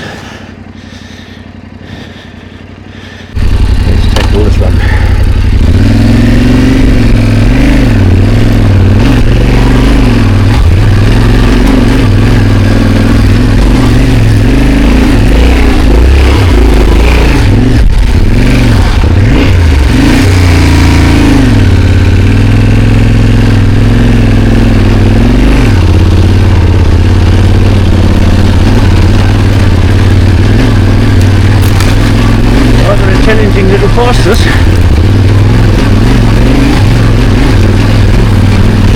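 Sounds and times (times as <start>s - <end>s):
motorcycle engine running under load: 0.0s - 38.9s.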